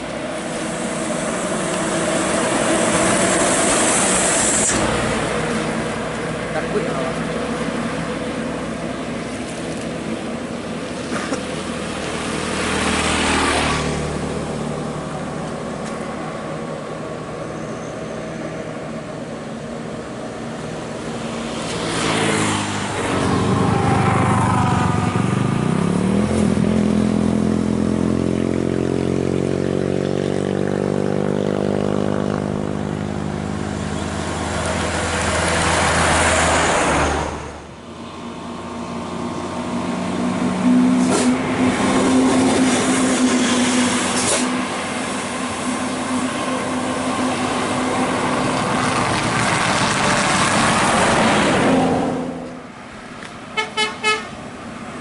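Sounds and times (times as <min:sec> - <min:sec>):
heavy road traffic passing: 0:00.0 - 0:55.0.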